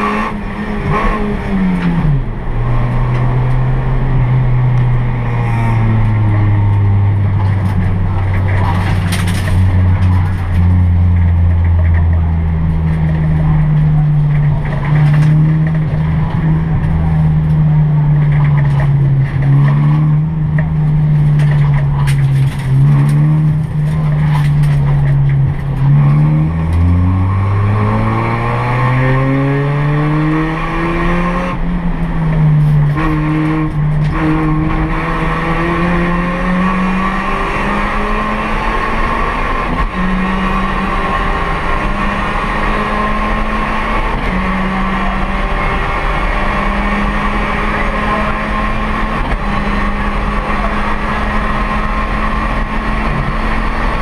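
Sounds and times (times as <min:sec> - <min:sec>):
car engine revving in cabin: 0:00.0 - 0:54.0.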